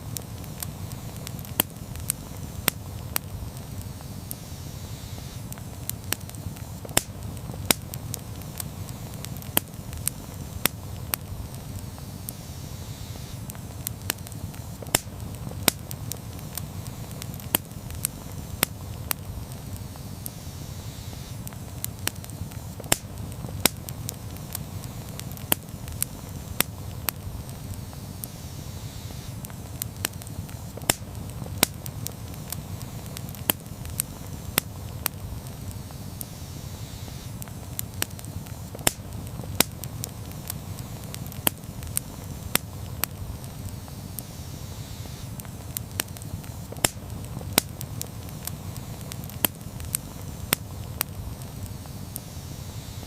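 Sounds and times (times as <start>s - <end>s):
campfire snaps and pops: 0.0s - 53.0s
low rumble of flames: 0.0s - 53.0s.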